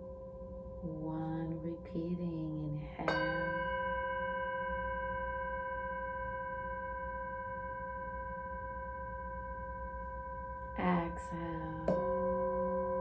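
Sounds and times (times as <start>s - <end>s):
metal singing bowl ringing: 0.0s - 13.0s.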